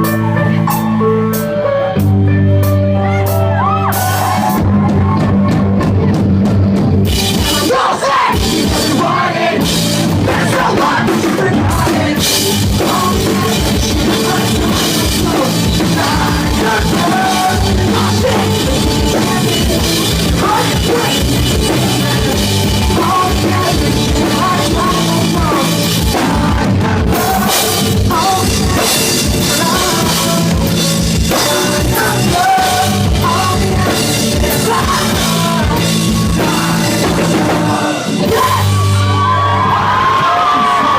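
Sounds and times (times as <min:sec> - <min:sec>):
drum kit: 0:00.0 - 0:40.9
pop-punk band playing live: 0:00.0 - 0:40.9
sung vocals: 0:07.2 - 0:40.9.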